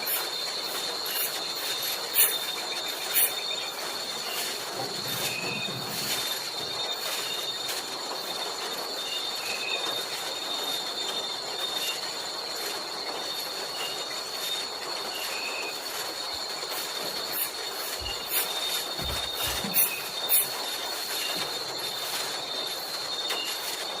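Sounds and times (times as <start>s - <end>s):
insects shrilling: 0.0s - 24.0s
short insect chirps: 0.0s - 24.0s
steady hiss: 0.0s - 24.0s.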